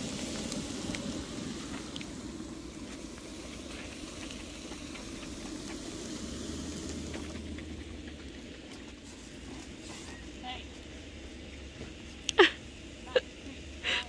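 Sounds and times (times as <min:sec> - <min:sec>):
meat skewers sizzling on grill: 0:00.0 - 0:14.0.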